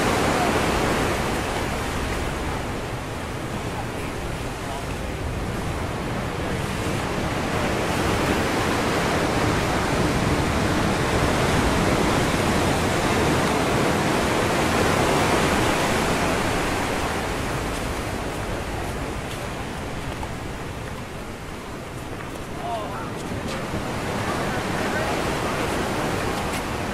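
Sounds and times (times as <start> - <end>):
ocean surf on rocks: 0.0 - 26.9.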